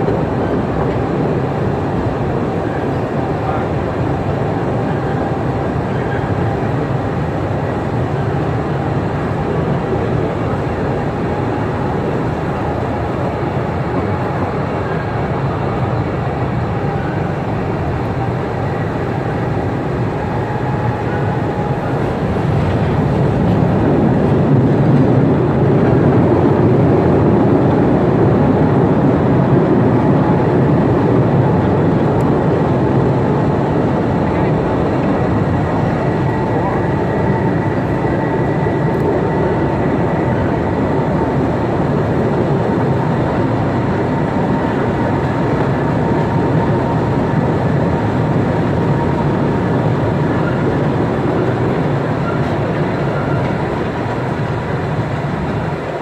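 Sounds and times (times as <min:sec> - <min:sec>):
train wheels rumbling and rattling: 0:00.0 - 0:56.0.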